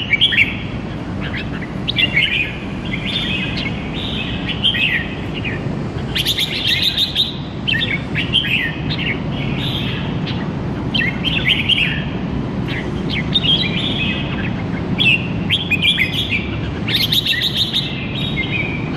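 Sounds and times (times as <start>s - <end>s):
birds singing warbled phrases: 0.0s - 18.9s.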